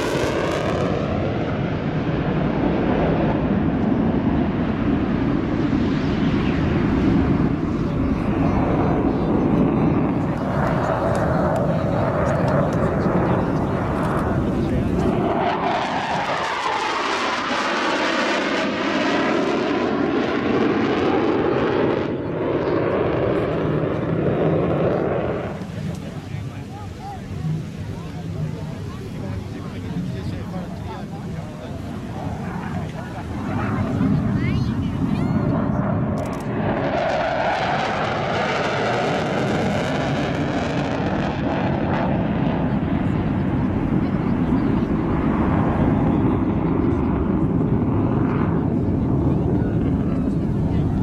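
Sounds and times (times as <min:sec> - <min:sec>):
jet engines roaring in flight: 0:00.0 - 0:51.0.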